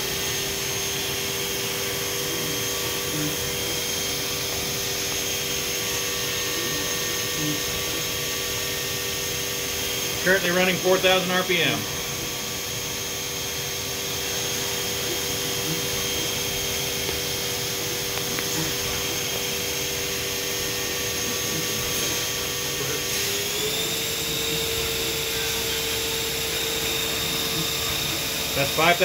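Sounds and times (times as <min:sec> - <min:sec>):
machine spindle whining: 0:00.0 - 0:29.0.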